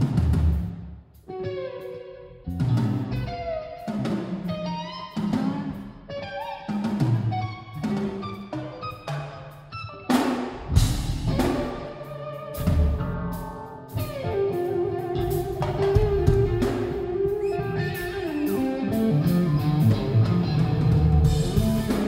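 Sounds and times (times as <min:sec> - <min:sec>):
muffled live rock band: 0:00.0 - 0:22.0
lead electric guitar melody: 0:01.2 - 0:22.0.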